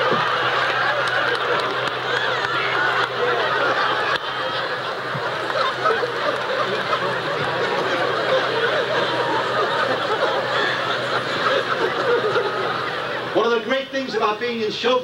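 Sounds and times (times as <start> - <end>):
audience laughing: 0.0 - 14.6.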